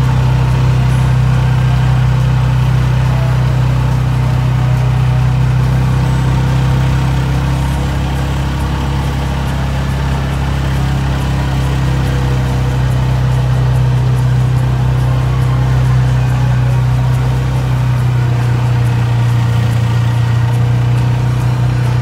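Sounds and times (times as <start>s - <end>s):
engine droning: 0.0s - 22.0s
plow blade pushing snow: 0.0s - 22.0s.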